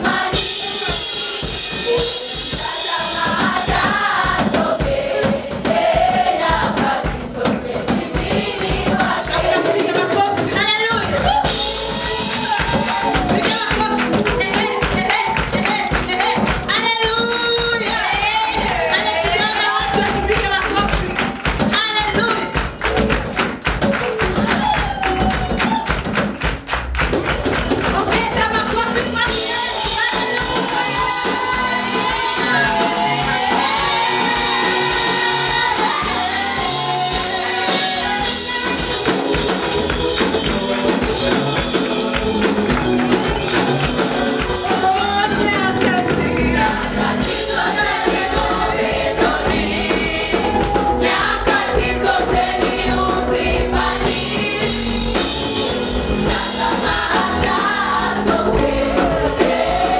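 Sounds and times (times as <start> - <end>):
group singing gospel: 0.0 - 21.5, 27.9 - 59.9
band with fast beat: 0.0 - 59.9.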